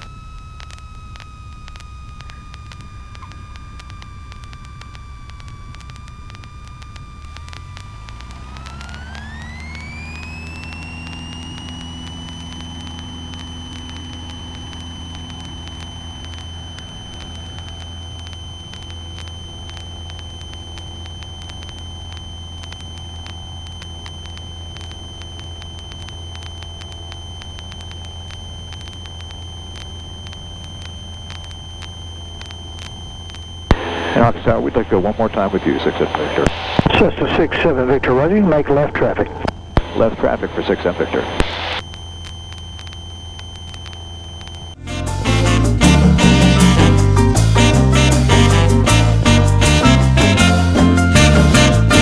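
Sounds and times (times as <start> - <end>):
high engine whine: 0.0 - 52.0.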